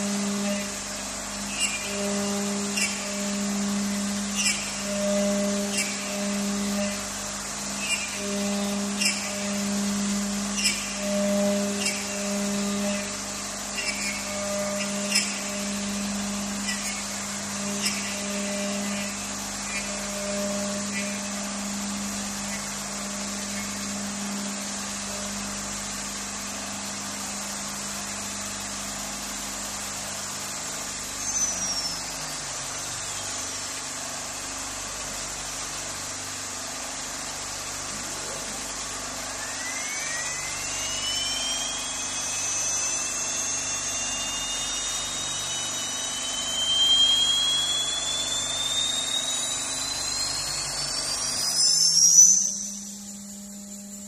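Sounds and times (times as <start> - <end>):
spindle high whine: 0.0 - 54.0
wood router running with hiss: 0.0 - 54.0.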